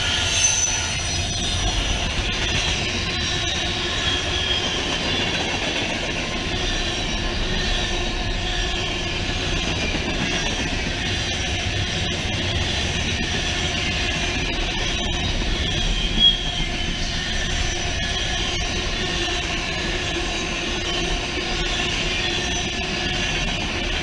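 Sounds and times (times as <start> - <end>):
high wheel squeal: 0.0 - 5.8, 10.2 - 24.0
train wheels rumbling on rail: 0.0 - 24.0.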